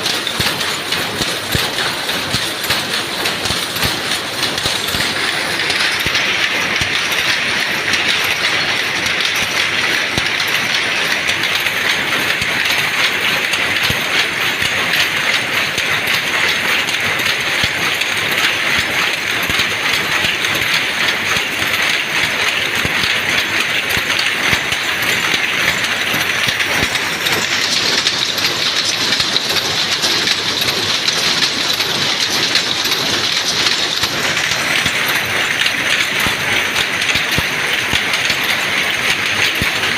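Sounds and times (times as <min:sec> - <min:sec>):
power loom clattering: 0:00.0 - 0:39.9.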